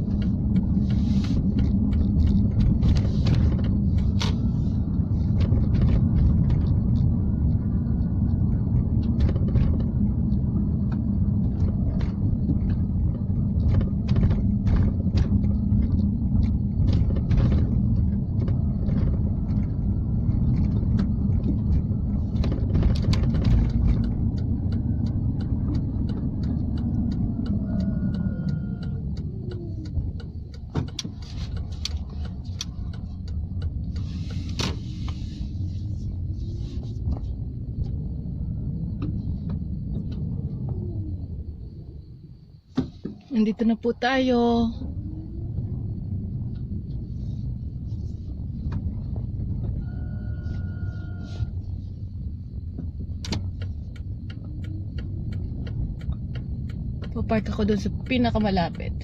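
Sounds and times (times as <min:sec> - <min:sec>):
clicks and rattles in car cabin: 0:00.0 - 0:41.3, 0:42.5 - 0:59.0
car engine and road noise: 0:00.0 - 0:59.0.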